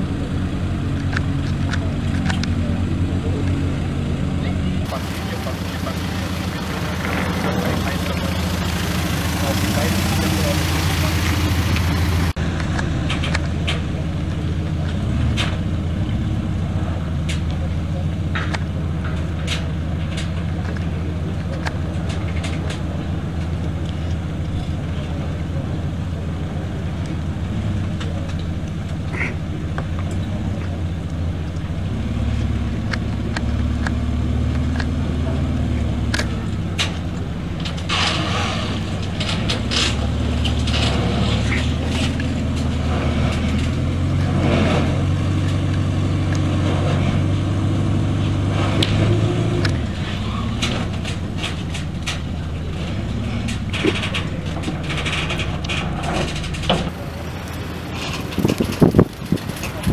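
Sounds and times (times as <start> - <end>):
diesel engine running at low revs: 0.0 - 59.9.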